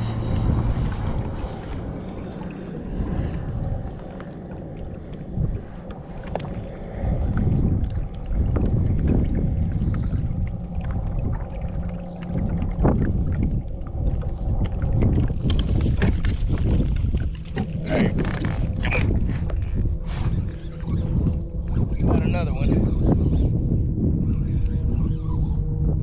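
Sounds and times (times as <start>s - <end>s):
water lapping at hull: 0.0s - 26.0s
wind rumbling on microphone: 0.0s - 26.0s.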